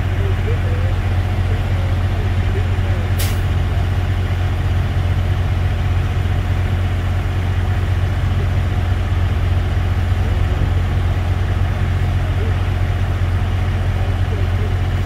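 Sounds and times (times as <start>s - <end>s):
heavy machinery engine idling: 0.0s - 15.0s.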